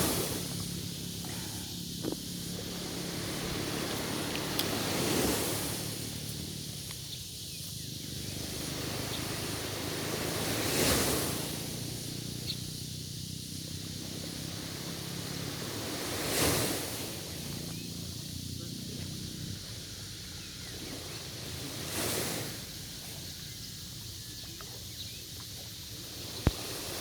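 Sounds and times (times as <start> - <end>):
sea waves washing ashore: 0.0 - 27.0.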